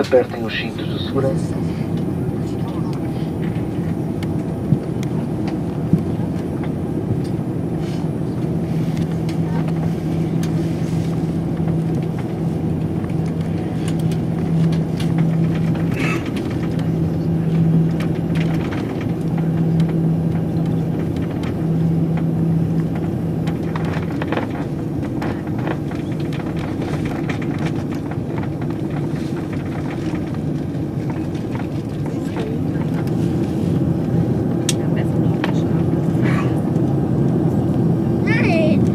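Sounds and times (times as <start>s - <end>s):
aircraft cabin engine rumble: 0.0s - 38.9s
low hum: 0.0s - 38.9s.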